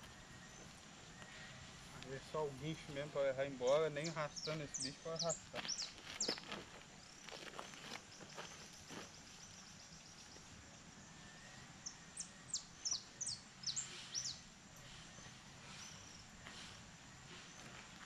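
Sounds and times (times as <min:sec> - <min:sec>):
faint rural background: 0:00.0 - 0:18.0.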